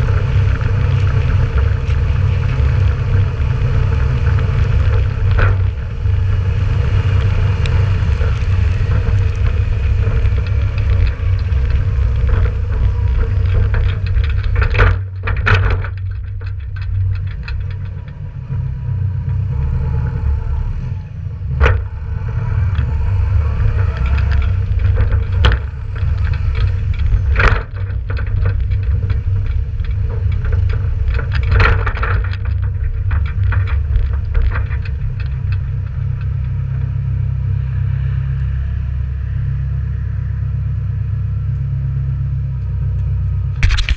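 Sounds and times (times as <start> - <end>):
trailer banging over bumps: 0.0 - 38.2
tractor diesel engine running: 0.0 - 43.9
trailer deep rumble: 0.0 - 43.9.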